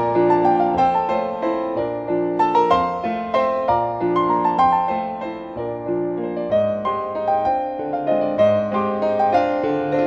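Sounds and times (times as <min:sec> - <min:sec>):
solo piano waltz: 0:00.0 - 0:10.0.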